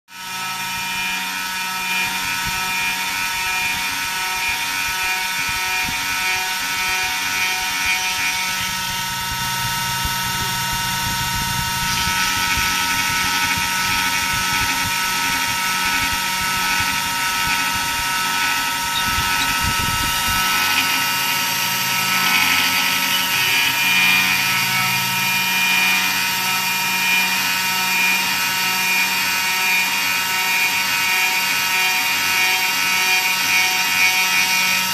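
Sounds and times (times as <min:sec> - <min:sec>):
router spindle whining: 0:00.1 - 0:34.9
stepper motors humming: 0:00.2 - 0:34.9
rasp of cutter in wood: 0:00.3 - 0:34.9.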